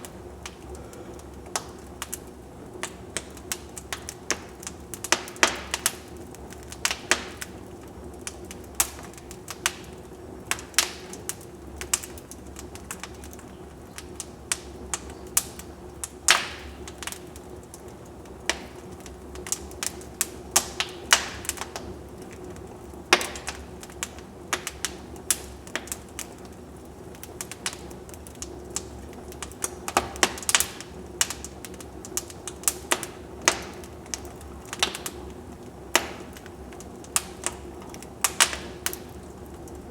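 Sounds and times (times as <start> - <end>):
fire pops and snaps: 0.0 - 39.9
rumble and hiss of burning logs: 0.0 - 39.9
wood fire crackling: 0.0 - 39.9.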